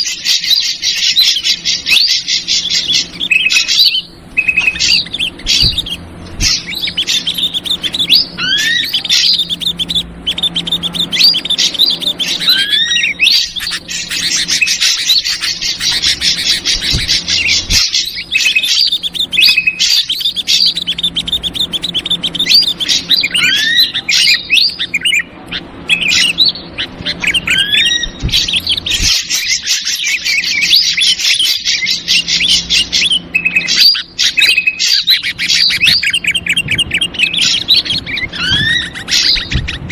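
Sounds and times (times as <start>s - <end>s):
bulbul chattering: 0.0s - 39.9s
drongo whistled calls: 0.0s - 39.9s.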